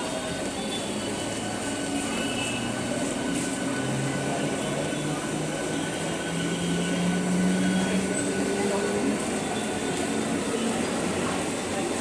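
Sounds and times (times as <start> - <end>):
train traction motors whining: 0.0 - 12.0.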